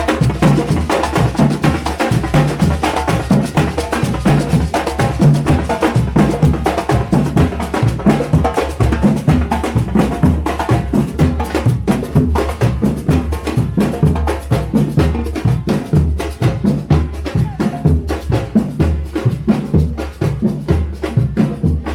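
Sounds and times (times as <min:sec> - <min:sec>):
drums and percussion: 0:00.0 - 0:21.9.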